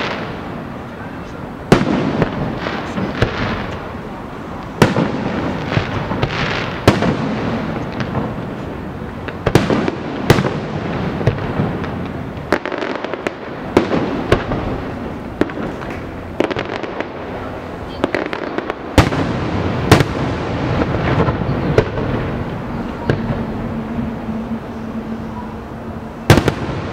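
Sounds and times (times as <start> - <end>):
small fireworks pops: 0.0 - 23.6
fireworks bangs with crackle: 0.0 - 26.9.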